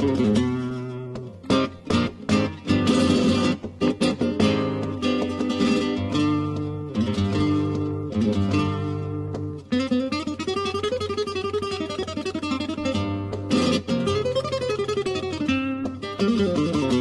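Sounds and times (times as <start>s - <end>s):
flamenco guitar plucked runs: 0.0s - 17.0s
guitar strummed chords: 0.0s - 17.0s.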